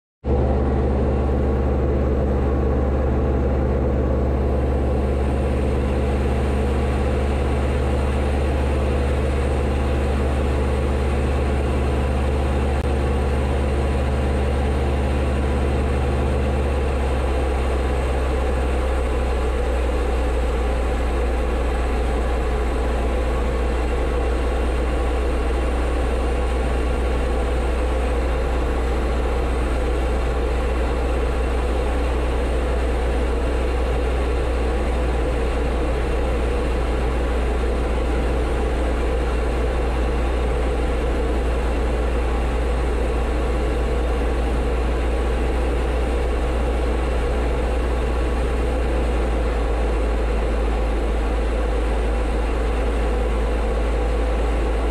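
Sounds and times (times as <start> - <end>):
propeller plane engine droning: 0.2 - 54.9.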